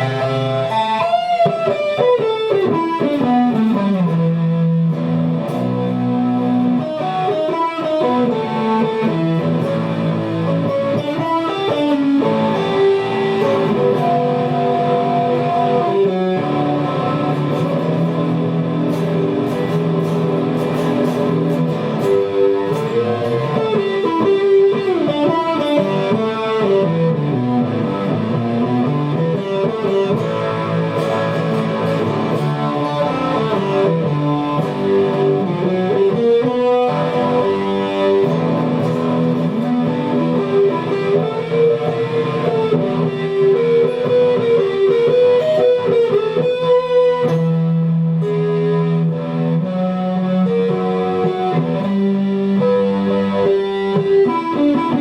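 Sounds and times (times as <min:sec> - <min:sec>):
electric guitar melody: 0:00.0 - 0:55.0.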